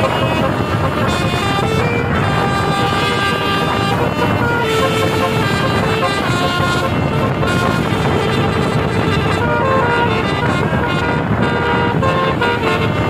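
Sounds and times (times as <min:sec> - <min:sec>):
bus noise: 0:00.0 - 0:13.0
musical air horn melody: 0:00.0 - 0:13.0.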